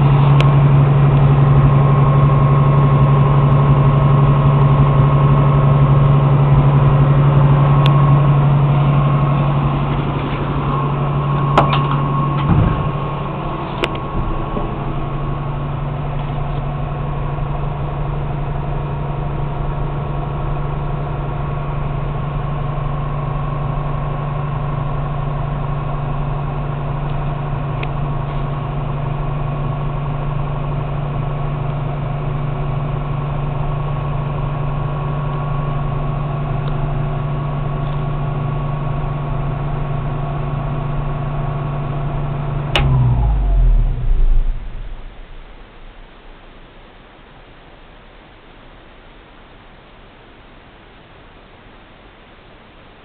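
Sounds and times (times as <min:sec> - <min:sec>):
truck engine idling: 0:00.0 - 0:47.2.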